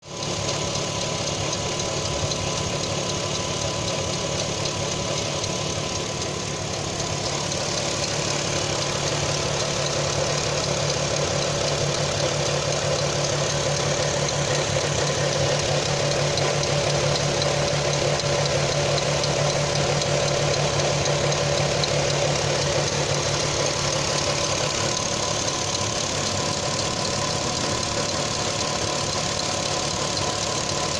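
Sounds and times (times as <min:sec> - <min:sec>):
car engine idling: 0:00.0 - 0:30.9
engine ticking: 0:00.0 - 0:30.9.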